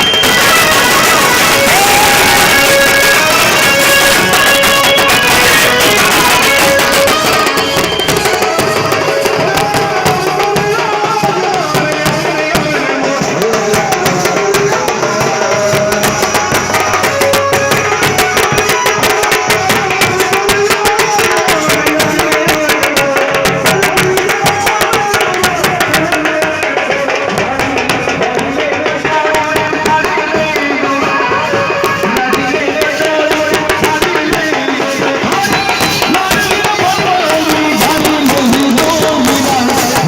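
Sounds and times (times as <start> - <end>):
fast dense drumming: 0.0 - 40.0.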